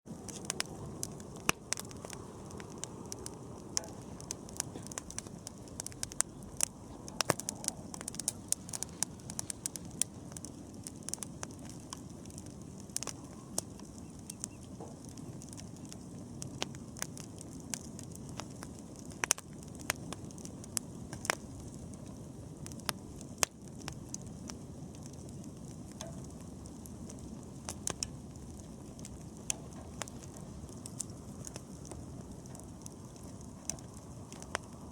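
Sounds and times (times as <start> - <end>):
burning wood crackling and popping: 0.0 - 34.9
bonfire flames rushing: 0.1 - 34.9.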